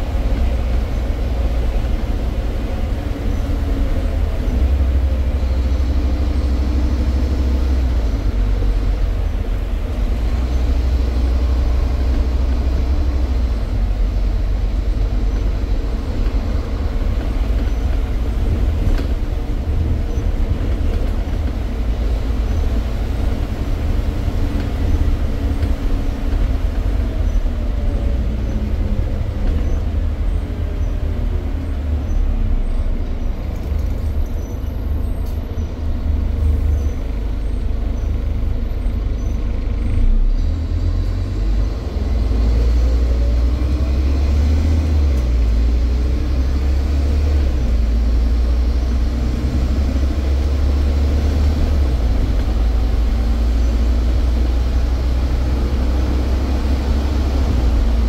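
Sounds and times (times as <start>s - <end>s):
bus diesel engine drone: 0.0s - 58.0s
bus driveline whine: 0.0s - 58.0s.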